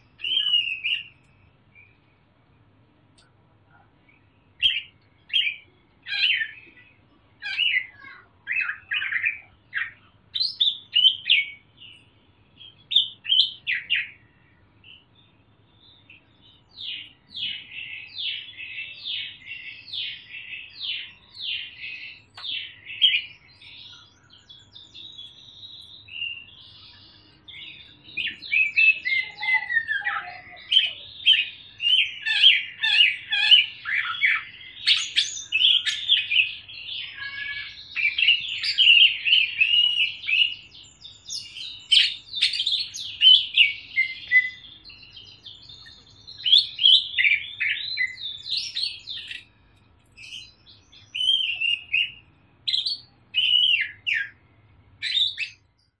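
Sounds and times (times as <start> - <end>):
bird singing rapid twittering: 0.0 - 2.3, 4.2 - 56.0.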